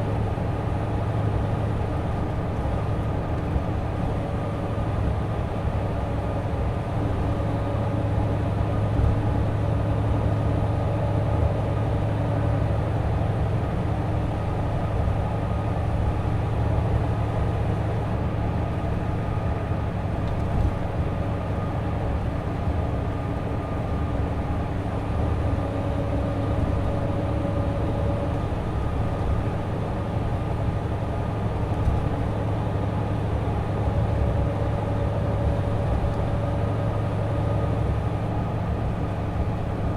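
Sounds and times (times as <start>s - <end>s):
coach diesel engine droning: 0.0s - 39.9s
road and tyre noise: 0.0s - 39.9s.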